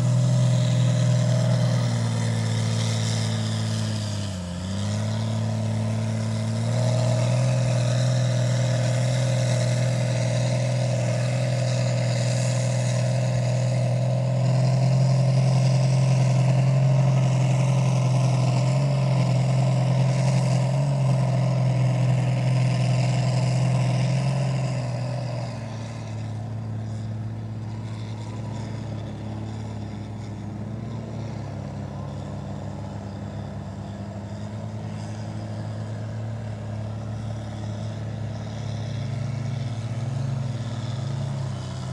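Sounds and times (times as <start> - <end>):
truck engine at high revs: 0.0 - 41.9.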